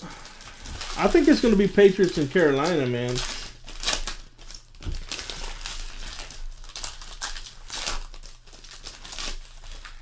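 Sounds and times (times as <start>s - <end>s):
foil wrappers crinkling and ripping: 0.0s - 10.0s.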